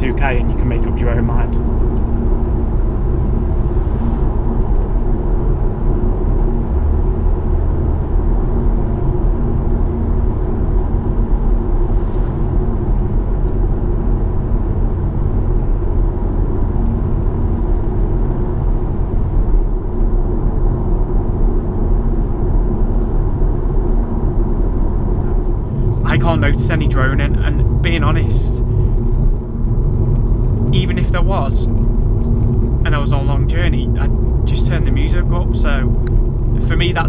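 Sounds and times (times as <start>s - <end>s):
car engine low rumble in cabin: 0.0s - 37.0s.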